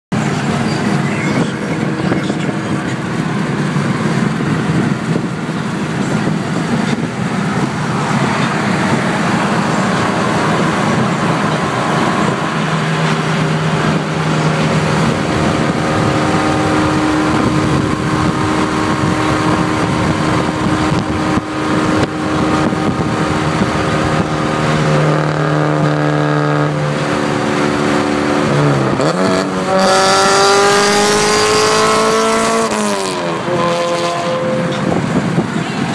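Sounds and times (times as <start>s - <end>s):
car engine accelerating: 0.1s - 35.9s
road noise: 0.1s - 35.9s
wind noise: 0.2s - 35.9s.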